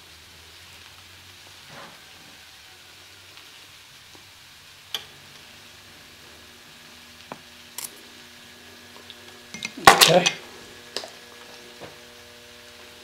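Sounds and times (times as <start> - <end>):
chicken sizzling in a skillet: 0.0 - 13.0.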